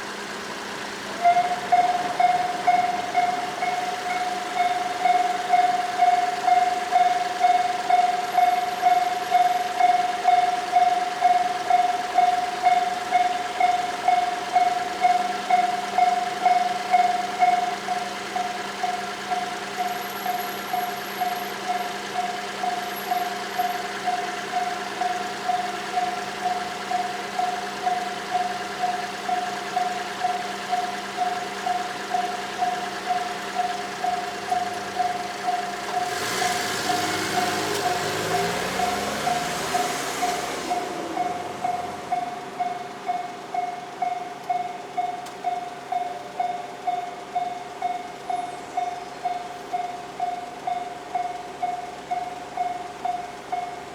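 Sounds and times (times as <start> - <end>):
level crossing warning bell ringing: 0.2 - 53.9.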